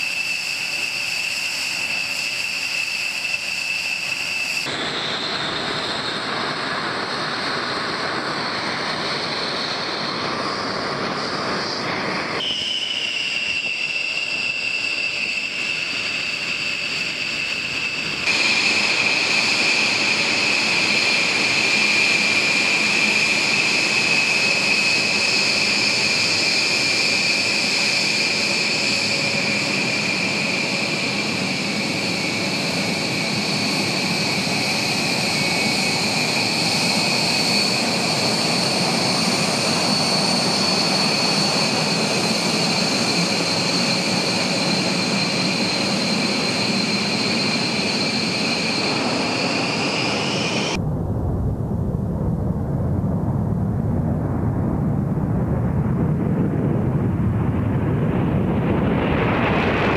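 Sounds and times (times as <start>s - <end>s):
jet engines running with whine: 0.0s - 59.9s.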